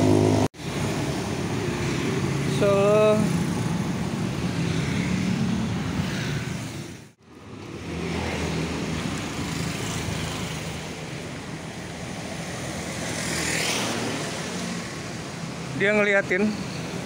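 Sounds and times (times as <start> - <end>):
car engines passing: 0.0 - 17.0.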